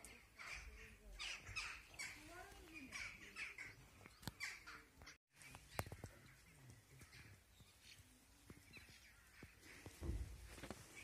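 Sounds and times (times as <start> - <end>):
bird calling: 0.0 - 11.0
faint outdoor ambience: 0.0 - 11.0.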